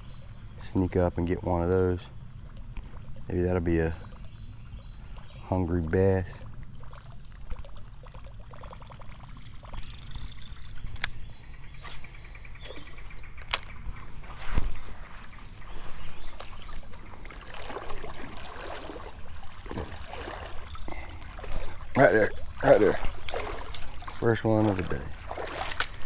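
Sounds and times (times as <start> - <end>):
water sloshing and trickling: 0.0 - 26.0.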